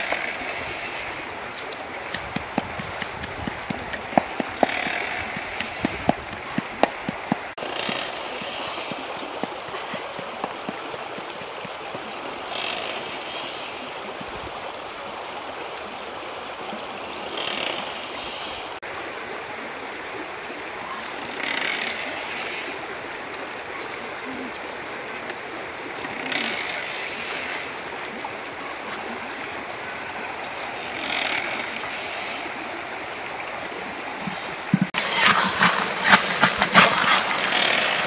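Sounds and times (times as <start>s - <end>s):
flowing stream: 0.0s - 38.0s.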